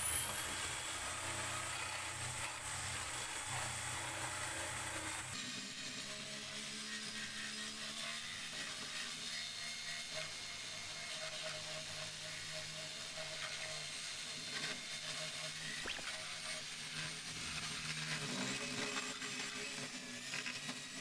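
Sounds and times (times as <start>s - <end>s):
small power tool running: 0.0s - 21.0s.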